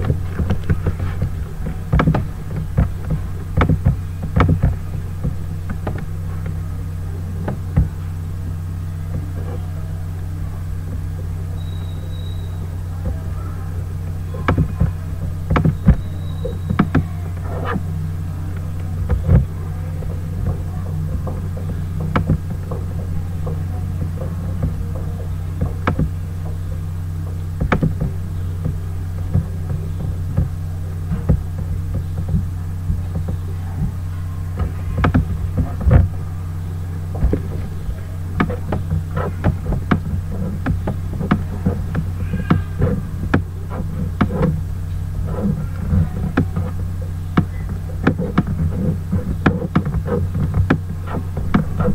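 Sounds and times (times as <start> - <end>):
low hum: 0.0 - 51.9.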